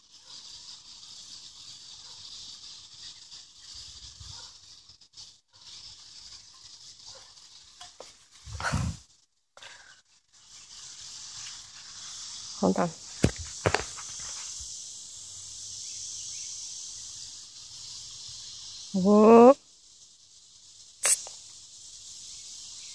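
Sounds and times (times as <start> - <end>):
insect chorus hissing: 0.0 - 22.9.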